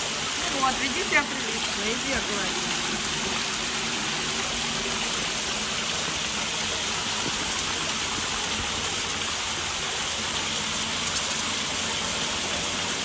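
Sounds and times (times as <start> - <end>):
fountain jets spraying and splashing: 0.0 - 13.0.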